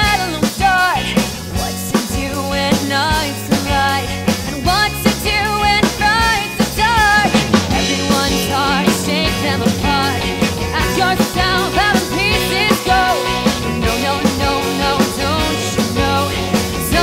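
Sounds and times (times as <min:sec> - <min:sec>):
rock band playing: 0:00.0 - 0:17.0
wavering melodic lead line: 0:02.6 - 0:17.0.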